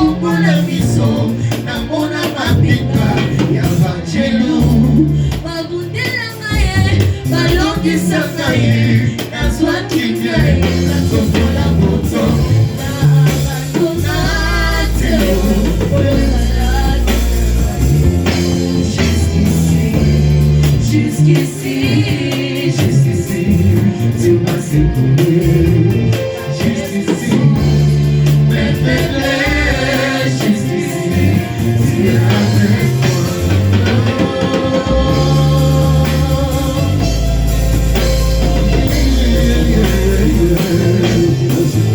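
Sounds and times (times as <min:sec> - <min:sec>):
bass guitar: 0:00.0 - 0:41.9
drums: 0:00.0 - 0:41.9
electric guitar: 0:00.0 - 0:41.9
people singing worship music: 0:00.0 - 0:41.9.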